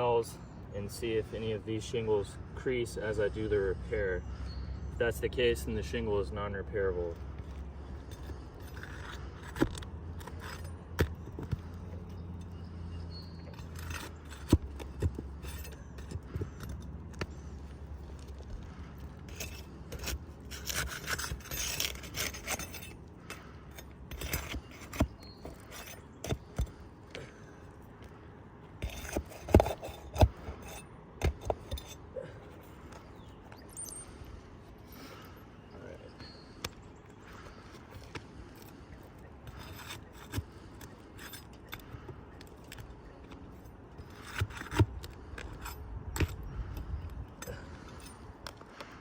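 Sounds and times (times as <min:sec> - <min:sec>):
steady low hum: 0:00.0 - 0:49.0
light scraping: 0:05.0 - 0:28.2, 0:28.8 - 0:35.3, 0:37.3 - 0:49.0.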